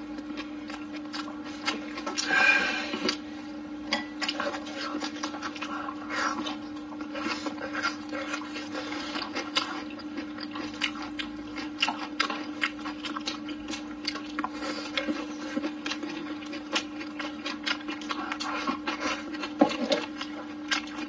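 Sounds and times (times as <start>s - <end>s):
close-miked chewing: 0.0s - 21.0s
steady hum: 0.0s - 21.0s.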